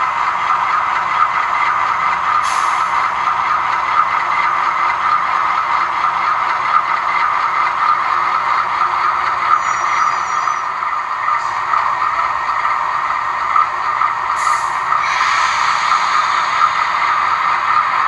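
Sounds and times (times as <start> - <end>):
model locomotive diesel engine sound: 0.0 - 18.0.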